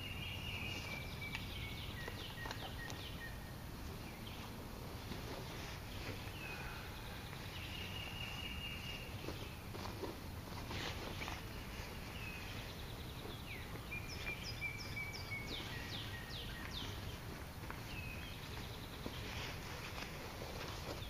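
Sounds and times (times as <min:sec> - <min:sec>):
low rumble of background noise: 0:00.0 - 0:21.0
songbirds singing: 0:00.0 - 0:21.0.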